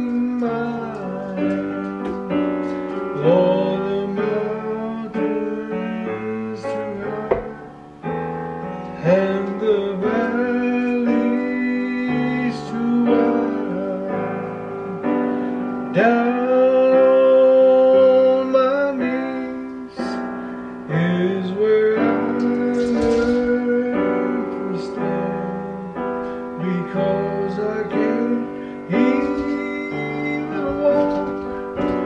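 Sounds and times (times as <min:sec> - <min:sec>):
man singing gospel song: 0:00.0 - 0:07.8, 0:08.9 - 0:32.0.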